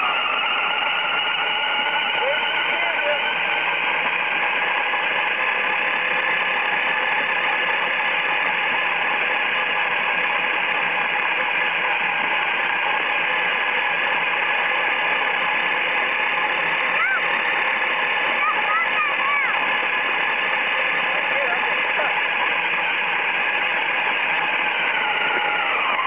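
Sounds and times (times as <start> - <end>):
toy truck motors whining: 0.0 - 26.0.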